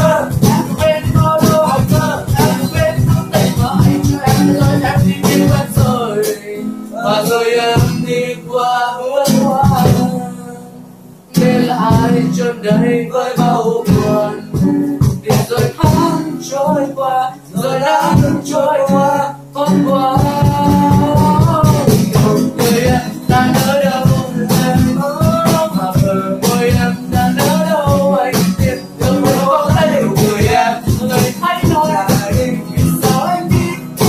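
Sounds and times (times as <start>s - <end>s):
acoustic guitars strummed: 0.0s - 34.0s
young man singing: 0.0s - 34.0s.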